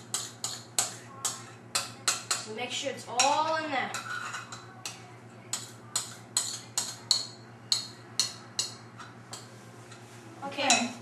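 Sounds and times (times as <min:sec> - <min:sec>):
spoon tapping mixing bowl: 0:00.0 - 0:02.5, 0:03.2 - 0:09.5.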